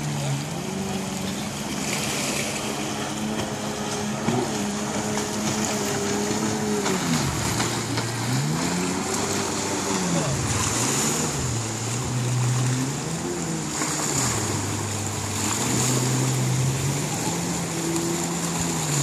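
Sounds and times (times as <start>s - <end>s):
jet ski engine: 0.0s - 19.0s.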